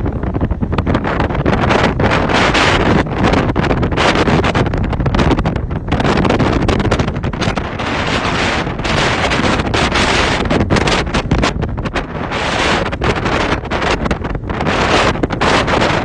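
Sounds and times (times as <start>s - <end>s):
strong wind gusting: 0.0s - 16.0s
wind buffeting microphone: 0.0s - 16.0s.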